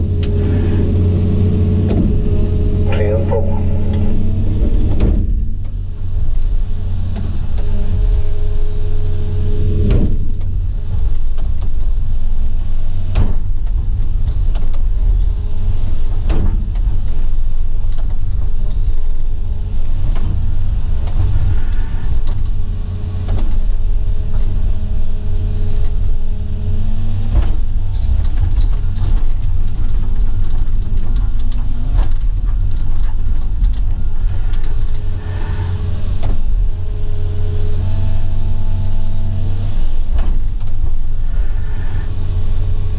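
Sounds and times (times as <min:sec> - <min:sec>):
excavator diesel engine running: 0:00.0 - 0:42.9
hydraulic whine: 0:00.0 - 0:42.9.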